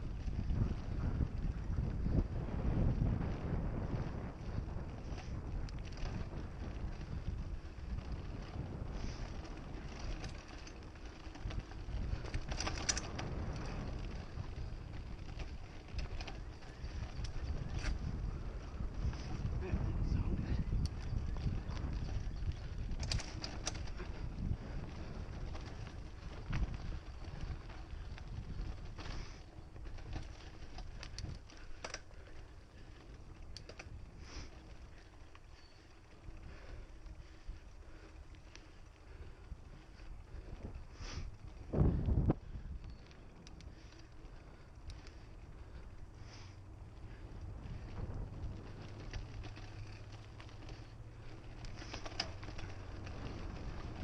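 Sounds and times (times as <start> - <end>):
bike rattling clicks: 0.0 - 54.0
bike tyres rolling on dirt: 0.0 - 54.0
wind buffeting microphone: 0.0 - 54.0.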